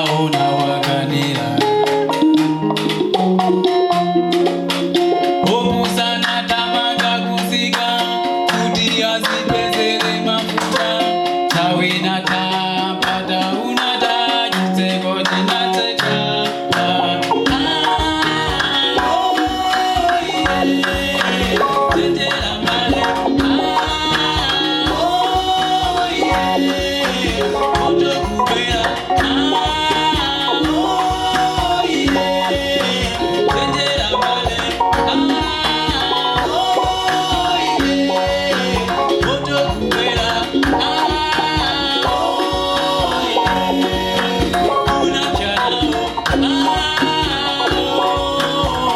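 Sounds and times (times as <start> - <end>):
live band music: 0.0 - 48.9
person singing: 0.0 - 48.9.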